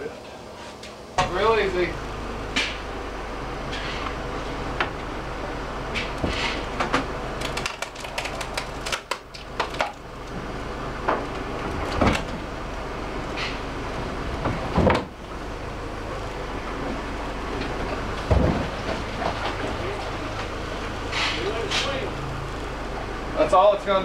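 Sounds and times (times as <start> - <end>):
forklift engine running: 0.0 - 24.0.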